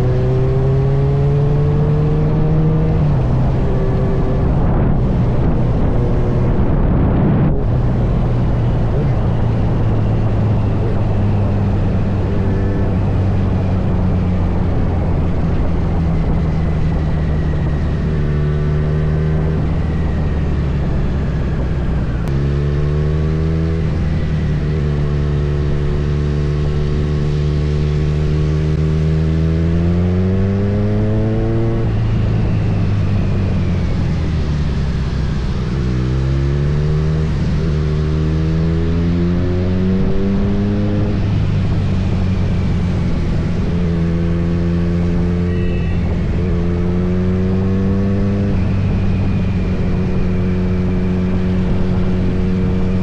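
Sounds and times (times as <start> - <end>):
motorcycle engine shifting gears: 0.0 - 53.0
wind rumble on microphone: 0.0 - 53.0.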